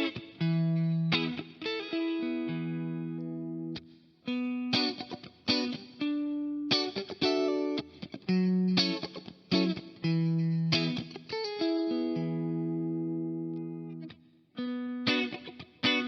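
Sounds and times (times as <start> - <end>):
electric guitar notes and chords: 0.0 - 16.0.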